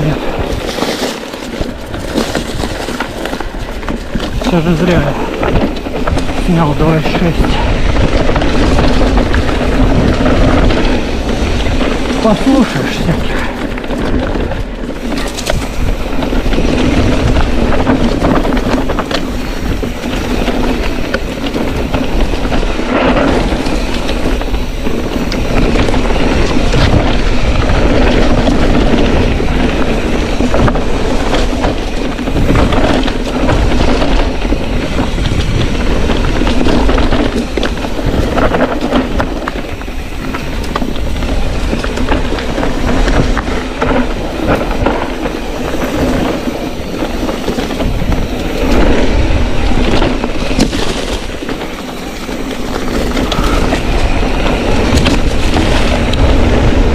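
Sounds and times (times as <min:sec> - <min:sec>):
bike clattering on rocky trail: 0:00.0 - 0:56.9
wheels knocking on stones: 0:00.0 - 0:56.9.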